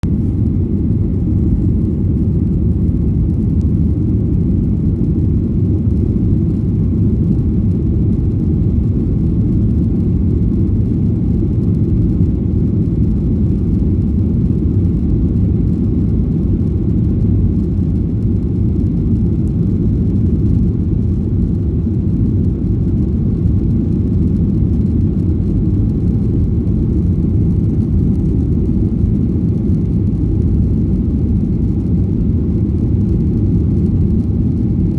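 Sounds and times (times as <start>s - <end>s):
airliner cabin engine roar: 0.0s - 34.9s.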